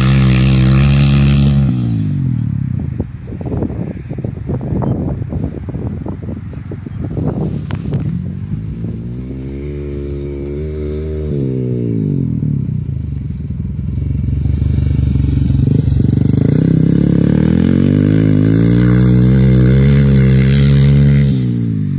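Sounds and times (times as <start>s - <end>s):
motorcycle engine passing: 0.0s - 3.1s, 6.3s - 21.9s.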